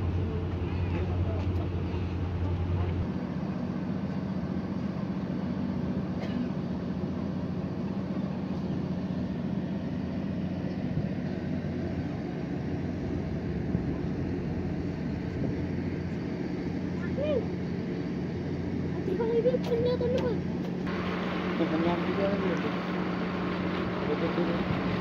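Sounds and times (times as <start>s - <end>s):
ship engine drone: 0.0s - 25.0s
wind and sea noise: 0.0s - 25.0s.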